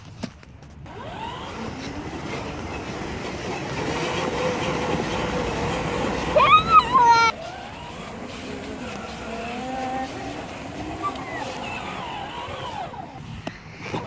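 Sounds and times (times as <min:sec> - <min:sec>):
plastic wheels rumbling on grass: 0:00.0 - 0:14.0
electric motor whine: 0:00.8 - 0:14.0.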